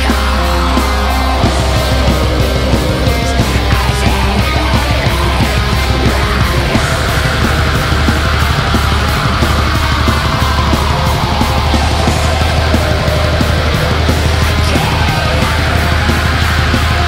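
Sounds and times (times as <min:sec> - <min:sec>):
distorted guitars: 0:00.0 - 0:17.0
low bass: 0:00.0 - 0:17.0
rapid drumming: 0:00.0 - 0:17.0.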